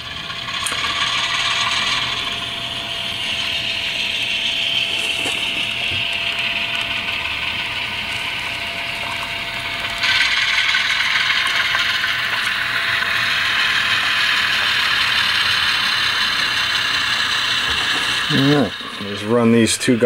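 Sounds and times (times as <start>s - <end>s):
model locomotive engine and gears: 0.0s - 20.0s.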